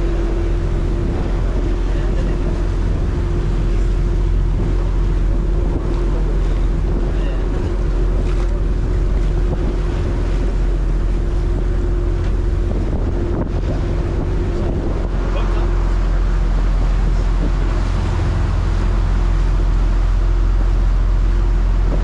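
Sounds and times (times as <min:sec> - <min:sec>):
boat engine drone: 0:00.0 - 0:22.0
water rushing in wake: 0:00.0 - 0:22.0
wind buffeting microphone: 0:00.0 - 0:22.0.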